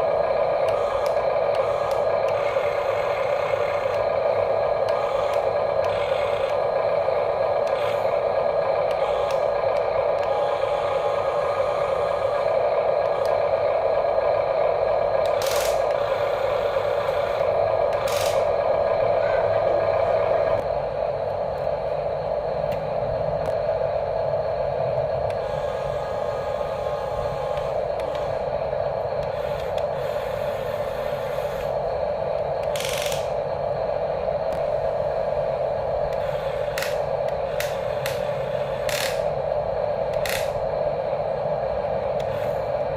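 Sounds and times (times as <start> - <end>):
electric motors whirring: 0.0 - 42.9.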